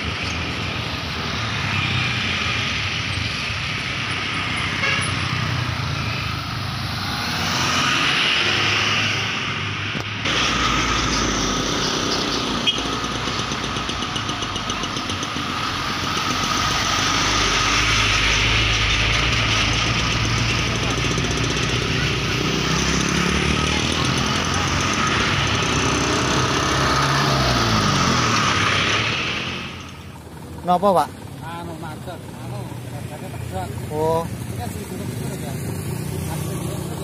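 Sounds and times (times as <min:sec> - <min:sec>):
cars passing: 0:00.0 - 0:37.0
diesel trucks rumbling past: 0:00.0 - 0:37.0
motorcycles passing: 0:00.0 - 0:37.0.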